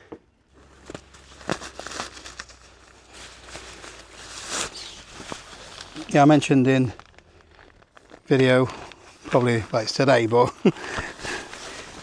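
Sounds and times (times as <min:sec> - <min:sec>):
crinkly material rustling: 0:00.5 - 0:12.0.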